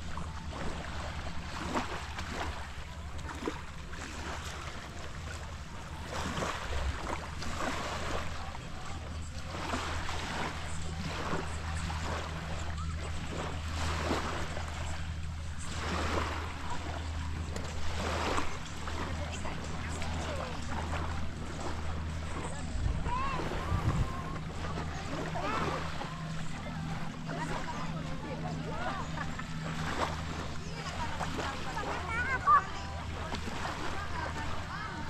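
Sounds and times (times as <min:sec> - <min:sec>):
low engine hum: 0:00.0 - 0:35.0
small waves washing on shore: 0:00.0 - 0:35.0.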